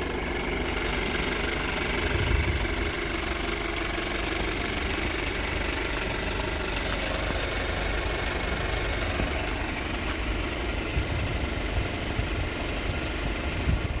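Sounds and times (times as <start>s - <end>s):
suv engine idling: 0.0s - 14.0s.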